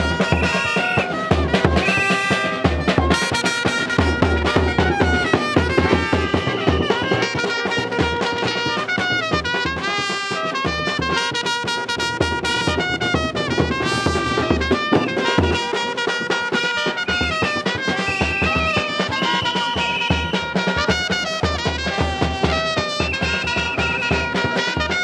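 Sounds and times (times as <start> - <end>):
bass drum beat: 0.0 - 7.3, 10.7 - 25.0
trumpets playing: 0.0 - 25.0.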